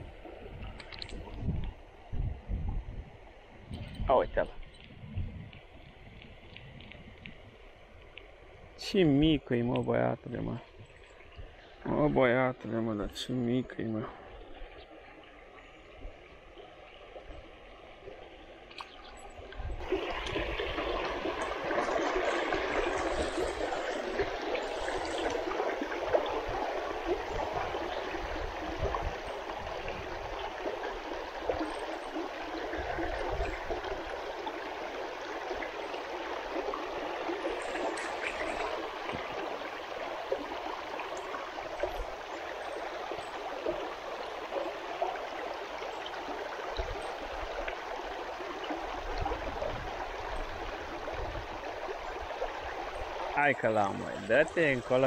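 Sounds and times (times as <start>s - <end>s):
river water running: 3.1s - 55.0s.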